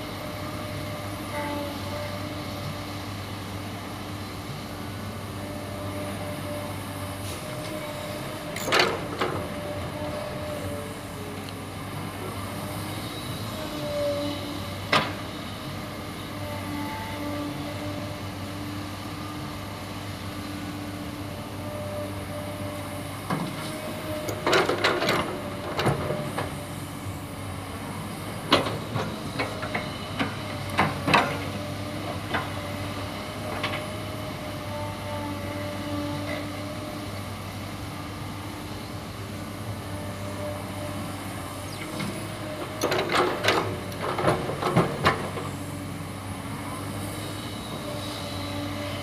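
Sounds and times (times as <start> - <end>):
diesel engines running: 0.0 - 49.0.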